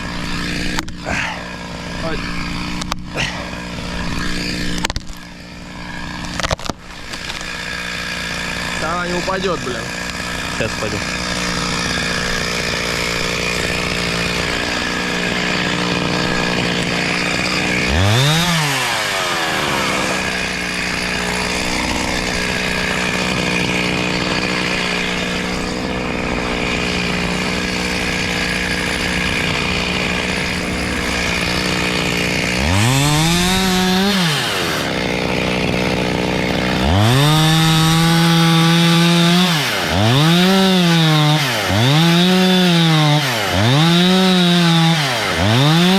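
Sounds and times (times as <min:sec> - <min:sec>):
chainsaw running: 0:00.0 - 0:45.9.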